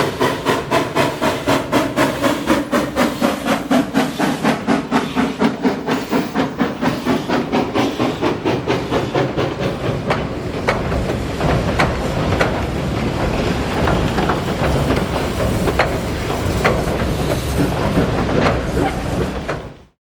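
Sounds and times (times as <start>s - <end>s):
steam locomotive chuffing: 0.0s - 20.0s
train rumble: 0.0s - 20.0s
wheels clicking over rail joints: 0.2s - 19.9s.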